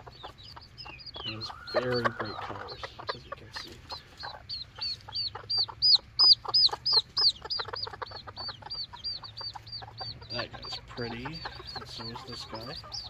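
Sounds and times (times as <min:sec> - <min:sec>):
bird chirping rapid high notes: 0:00.0 - 0:13.0
chickens clucking: 0:00.0 - 0:13.0.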